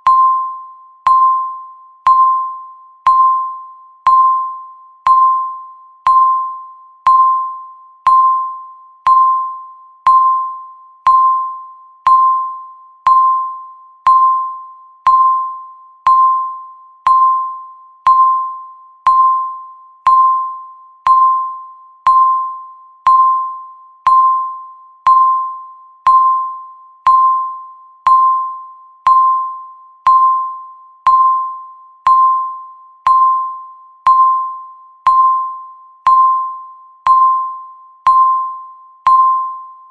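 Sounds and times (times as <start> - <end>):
electronic timer ding: 0.0 - 39.9.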